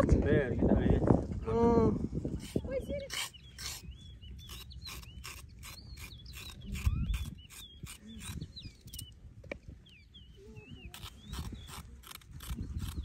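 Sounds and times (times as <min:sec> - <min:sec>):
small birds chirping: 0:02.3 - 0:13.0.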